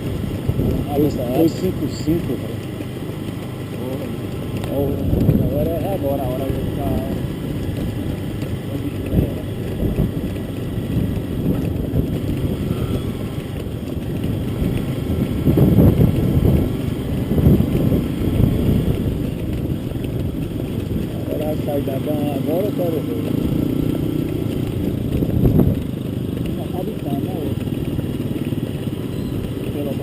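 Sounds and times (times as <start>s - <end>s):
wind buffeting microphone: 0.0s - 3.3s, 4.2s - 30.0s.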